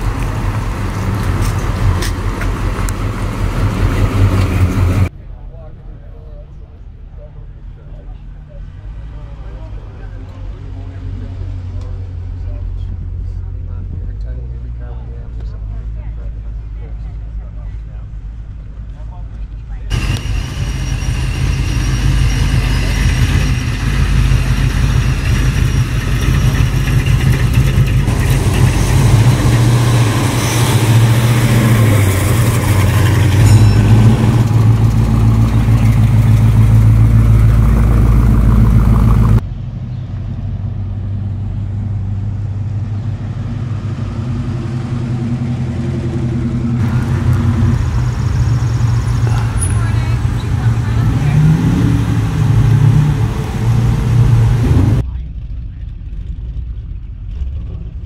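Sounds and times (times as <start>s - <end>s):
car engines driving past: 0.0s - 58.0s.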